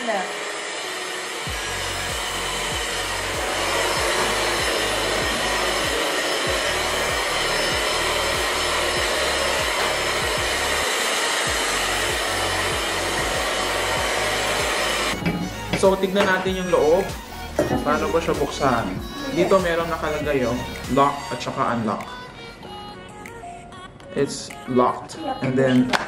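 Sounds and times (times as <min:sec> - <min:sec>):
vacuum cleaner running: 0:00.0 - 0:21.6.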